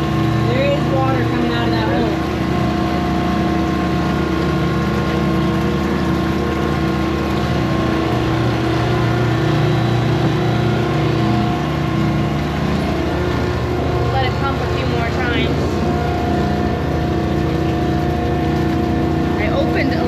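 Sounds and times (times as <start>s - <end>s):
pump droning: 0.0s - 20.0s.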